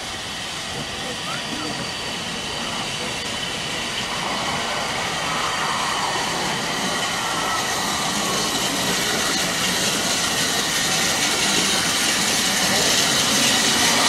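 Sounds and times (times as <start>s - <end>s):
train running noise: 0.0s - 14.0s
train wheels squealing: 0.0s - 14.0s.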